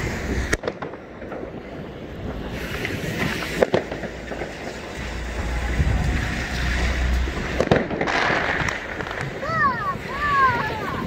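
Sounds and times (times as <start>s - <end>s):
distant fireworks cracking: 0.0s - 11.0s
outdoor rushing noise: 0.0s - 11.0s
wind buffeting microphone: 0.0s - 11.0s.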